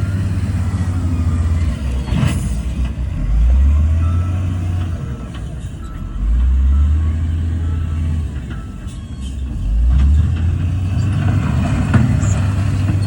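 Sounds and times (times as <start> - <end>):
diesel machinery engine drone: 0.0 - 13.0.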